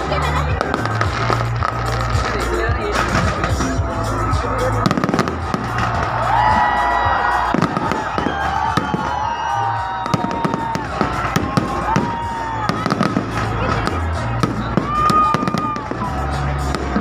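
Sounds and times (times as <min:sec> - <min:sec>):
fireworks bangs and crackles: 0:00.0 - 0:17.0
music with heavy bass: 0:00.0 - 0:17.0
fireworks whistling: 0:00.6 - 0:17.0.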